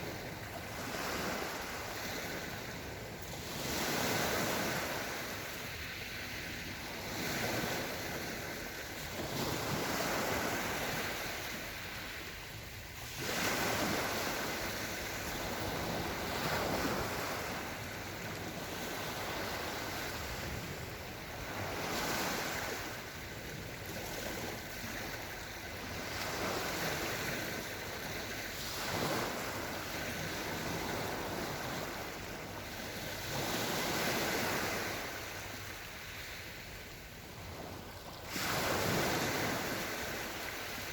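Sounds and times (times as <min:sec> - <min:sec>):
small waves washing onto shore: 0:00.0 - 0:40.9.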